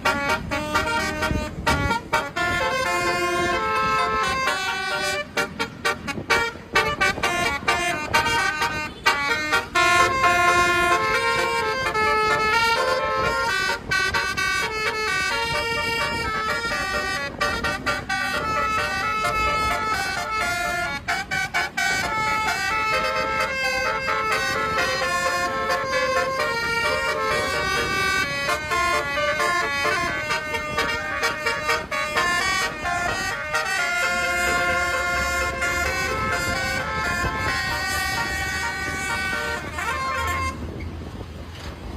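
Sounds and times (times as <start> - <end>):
multi-tone air horn playing a melody: 0.0 - 40.8.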